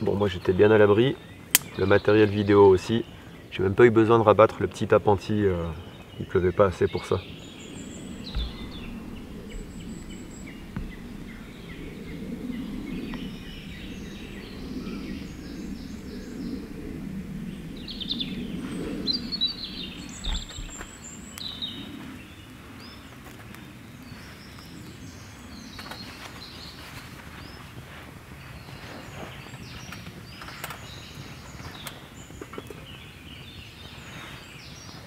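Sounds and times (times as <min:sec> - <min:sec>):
birds chirping and calling: 0:00.0 - 0:35.0
low outdoor rush: 0:00.0 - 0:35.0.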